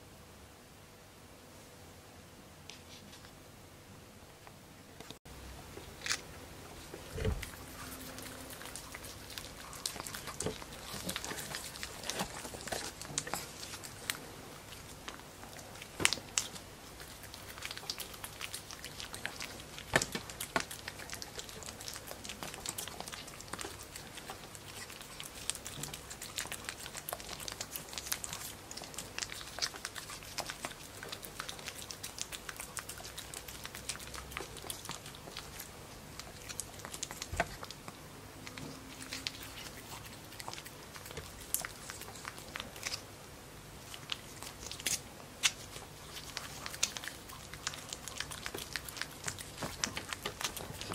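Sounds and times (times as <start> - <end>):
puppy licking and smacking: 7.1 - 43.1, 43.8 - 50.9.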